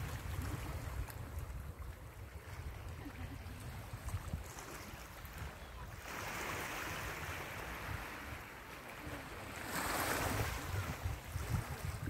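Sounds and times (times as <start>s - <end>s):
wind gusting on microphone: 0.0s - 12.0s.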